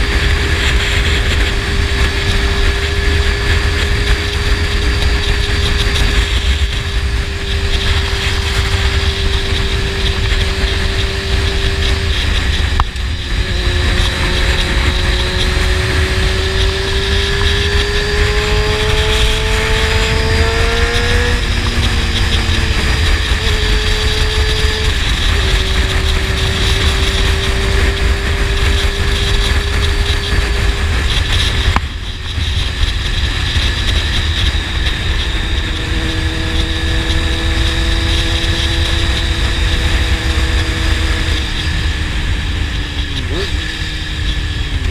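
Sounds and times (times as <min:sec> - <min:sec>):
motorcycle engine: 0:00.0 - 0:44.9
wind rumble: 0:00.0 - 0:44.9.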